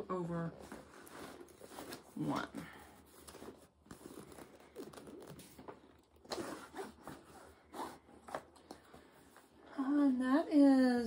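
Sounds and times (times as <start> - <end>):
cloth rustling and scraping: 0.4 - 9.8.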